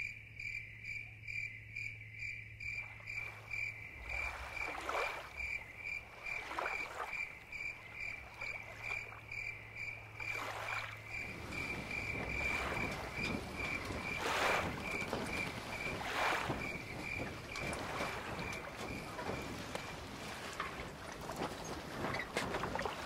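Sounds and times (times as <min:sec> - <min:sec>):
crickets chirping: 0:00.0 - 0:23.0
small waves lapping: 0:02.7 - 0:23.0.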